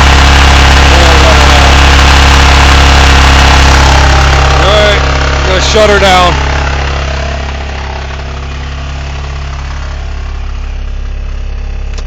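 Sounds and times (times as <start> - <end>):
car engine idling: 0.0 - 12.0
engine rattle: 0.0 - 12.0.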